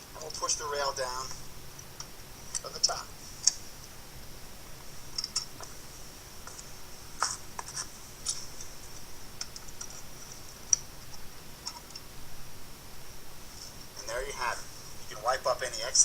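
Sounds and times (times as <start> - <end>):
faint high hiss: 0.0 - 16.0.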